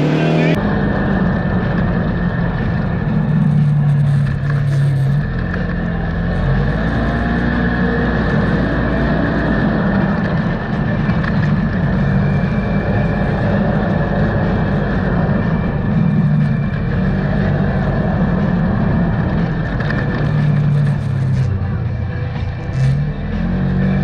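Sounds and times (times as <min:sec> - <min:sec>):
road and wind noise: 0:00.0 - 0:24.0
vehicle engine revving: 0:00.0 - 0:24.0.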